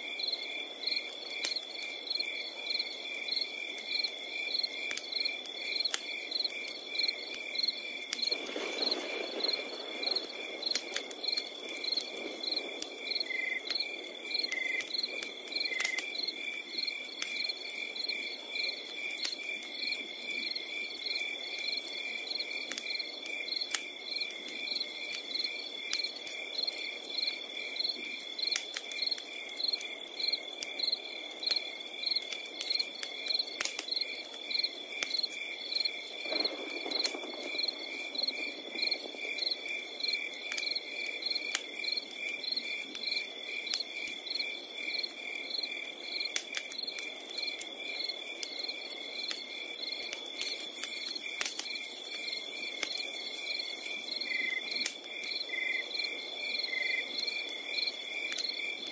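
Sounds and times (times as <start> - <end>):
campfire crackling and popping: 0.0 - 58.9
crickets chirping: 0.0 - 58.9.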